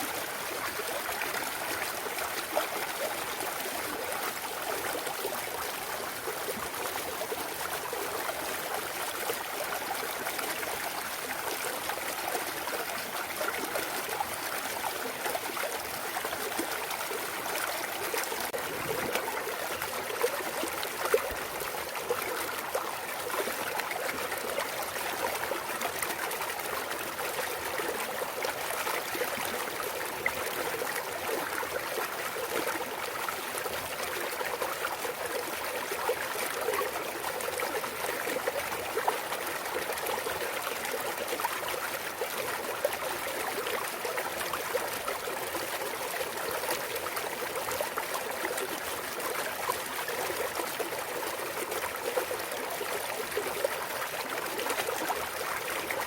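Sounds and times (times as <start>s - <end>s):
stream flowing over rocks: 0.0s - 56.0s
small water splashes: 10.8s - 56.0s.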